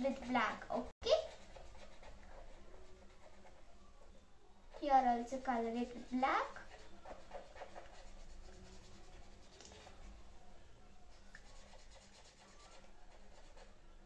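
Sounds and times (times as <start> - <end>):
pen scratching on paper: 0.0 - 3.7, 4.7 - 10.1, 11.4 - 13.8.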